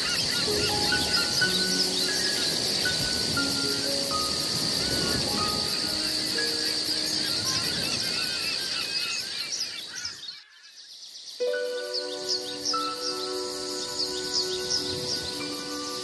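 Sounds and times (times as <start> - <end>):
birds chirping: 0.0 - 16.0
high insect drone: 0.0 - 16.0.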